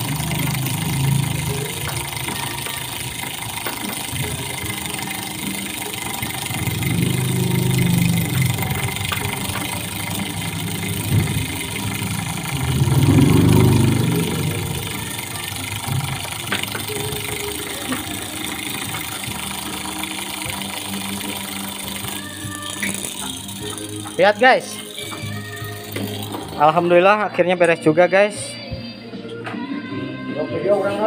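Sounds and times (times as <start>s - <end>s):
rotary tool motor running: 0.0s - 27.0s.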